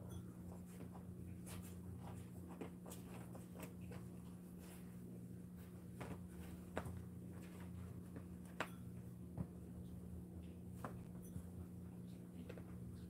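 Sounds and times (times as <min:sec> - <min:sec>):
low electrical hum: 0:00.0 - 0:13.0
puppies rustling and clicking: 0:00.4 - 0:05.0, 0:05.9 - 0:13.0.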